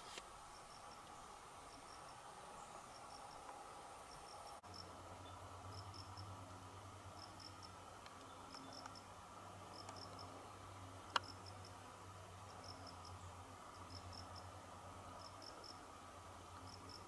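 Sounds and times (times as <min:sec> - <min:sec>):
low steady hum: 0:00.0 - 0:17.0
insect chirping: 0:00.4 - 0:17.0.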